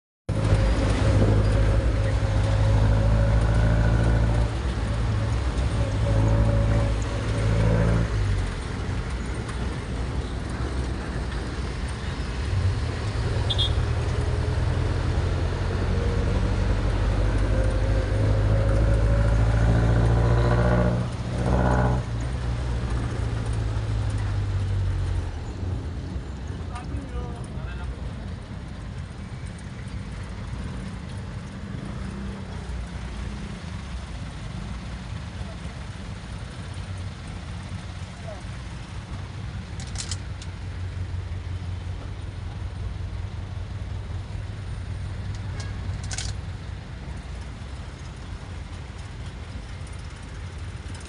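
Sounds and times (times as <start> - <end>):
car engine droning and whining: 0.3 - 51.0.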